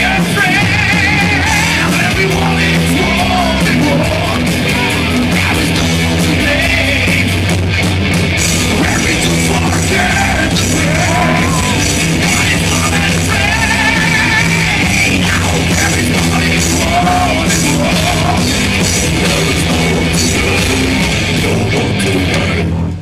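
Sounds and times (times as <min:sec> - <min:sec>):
man singing: 0:00.0 - 0:07.4, 0:08.5 - 0:22.9
bass guitar: 0:00.0 - 0:23.0
distorted electric guitar: 0:00.0 - 0:23.0
drums: 0:00.0 - 0:23.0.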